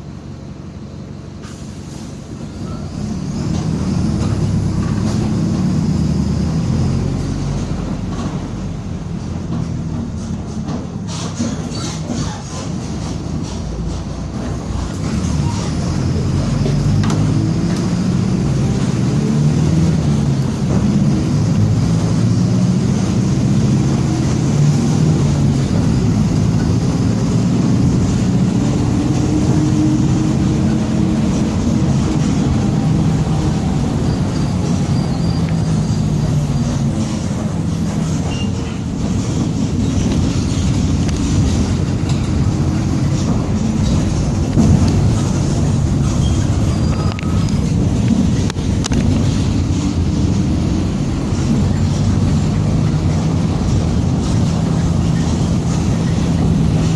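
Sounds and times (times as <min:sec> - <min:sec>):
bus engine running loudly: 0:00.0 - 0:56.9.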